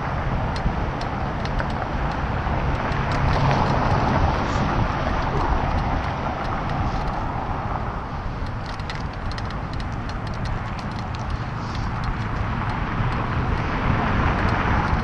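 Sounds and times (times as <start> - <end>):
bicycle tyre rumble: 0.0 - 15.0
wind rush on microphone: 0.0 - 15.0
light ticks: 0.5 - 7.3, 8.4 - 15.0.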